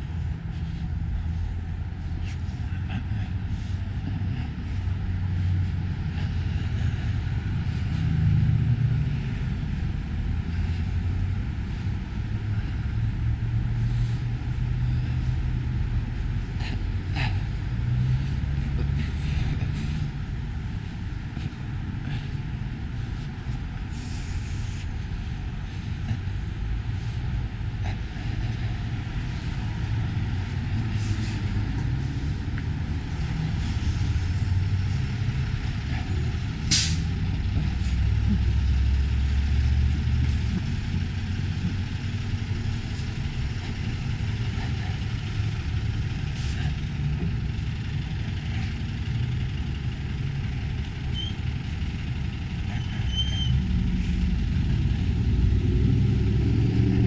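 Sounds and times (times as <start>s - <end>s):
city street traffic rumble: 0.0s - 57.0s.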